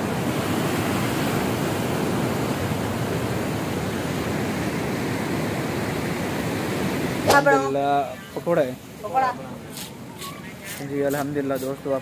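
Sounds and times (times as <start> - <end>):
water rushing in canal: 0.0 - 12.0.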